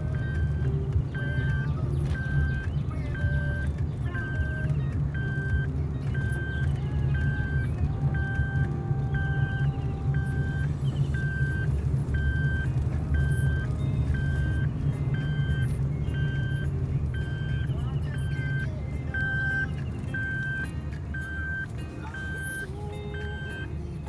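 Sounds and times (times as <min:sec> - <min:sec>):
electronic warning beep: 0:00.0 - 0:23.8
car engine and tyres rumble: 0:00.0 - 0:24.0.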